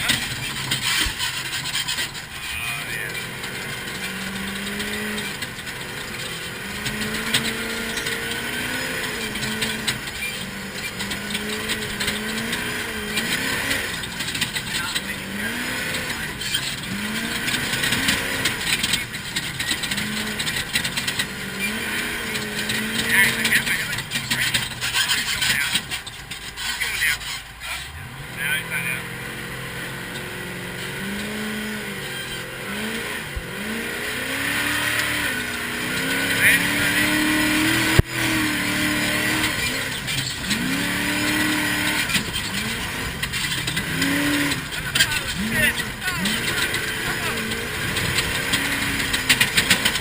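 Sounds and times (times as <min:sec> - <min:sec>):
vehicle engine running: 0:00.0 - 0:50.0
vehicle rattling and clattering: 0:00.0 - 0:50.0.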